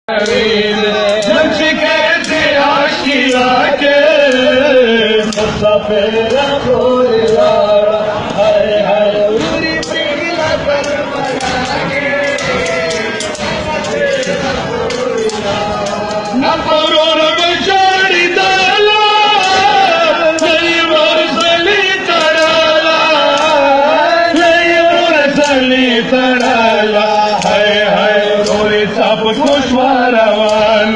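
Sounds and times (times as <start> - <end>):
men chanting a lament: 0.1 - 30.9
men beating their chests: 0.2 - 30.9.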